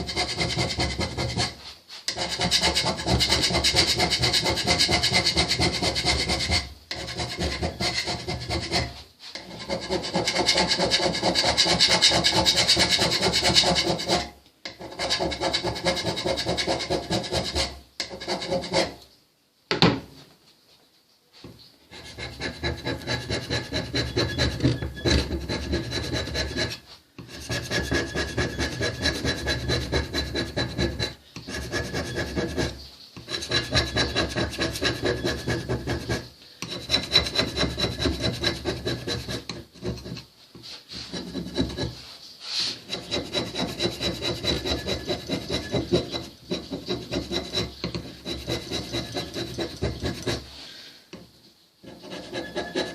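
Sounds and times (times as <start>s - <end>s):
hand scraper scratching metal: 0.0s - 19.0s, 21.9s - 50.6s, 51.8s - 52.9s.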